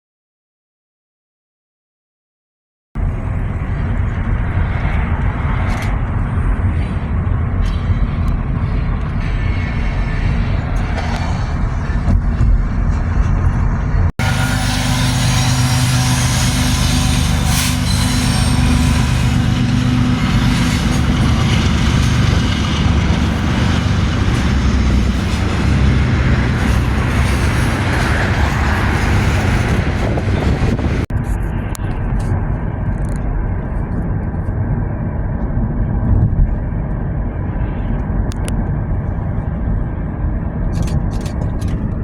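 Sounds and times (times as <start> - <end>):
train engine drone: 3.0 - 42.0
wheels rumbling on rails: 3.0 - 42.0.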